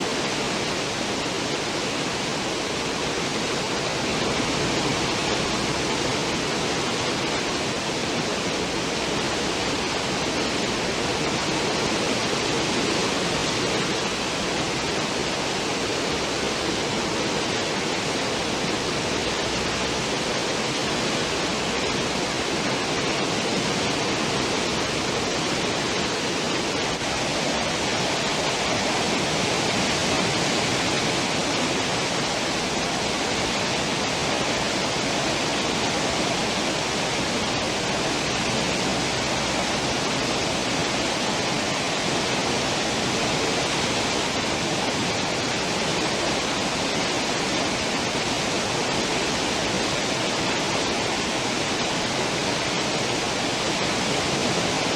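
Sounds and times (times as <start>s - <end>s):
ship wake rushing water: 0.0s - 54.9s.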